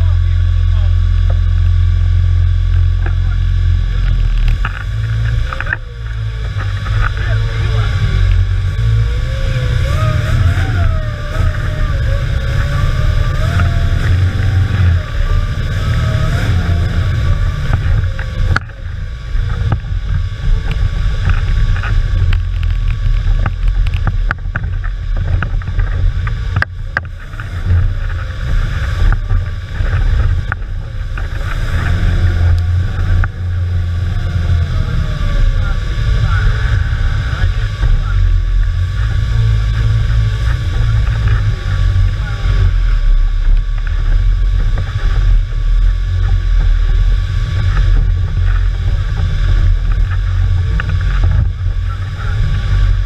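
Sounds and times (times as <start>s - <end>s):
car engine running hard: 0.0s - 53.0s
knocks and rattles over rough ground: 2.7s - 53.0s.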